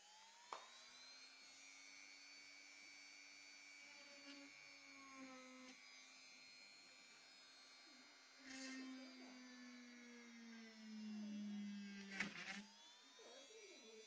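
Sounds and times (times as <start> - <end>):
electric mini drill whining: 0.0 - 14.0.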